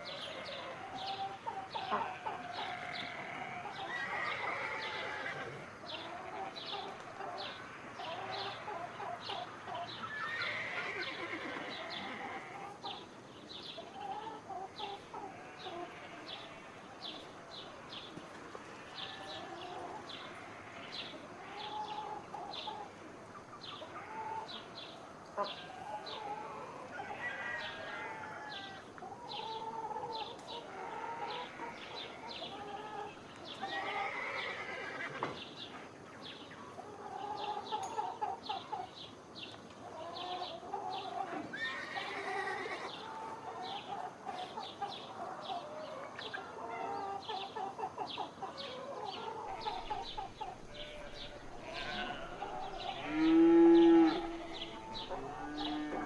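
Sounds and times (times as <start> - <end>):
chickens clucking: 0.0 - 10.1, 11.5 - 34.1, 35.1 - 41.5, 42.2 - 56.0
farm animal calls: 0.0 - 13.1, 13.8 - 17.9, 18.6 - 35.4, 39.9 - 56.0.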